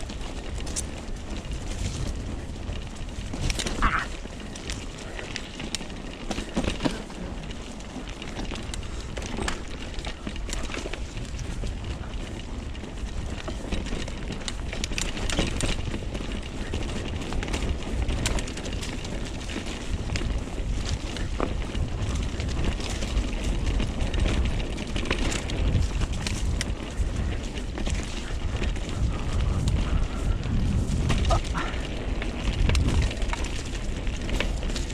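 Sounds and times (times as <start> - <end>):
bike clicks and rattles: 0.0 - 34.9
tyres rushing on dirt: 0.0 - 34.9
wind on microphone: 0.0 - 34.9.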